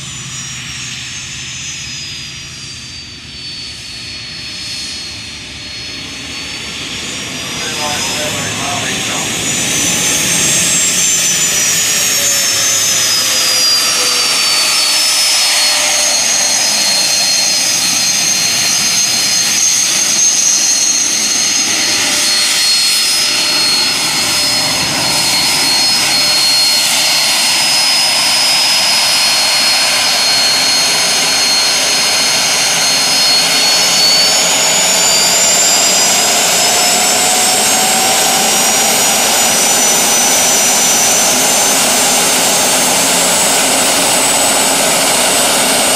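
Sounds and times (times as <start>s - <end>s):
turbine engine roar and whine: 0.0s - 45.9s.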